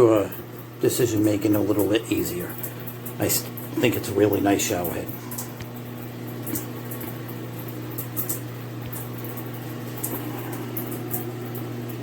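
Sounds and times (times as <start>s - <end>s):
low electrical hum: 0.0s - 12.0s
shower water spraying: 0.0s - 12.0s.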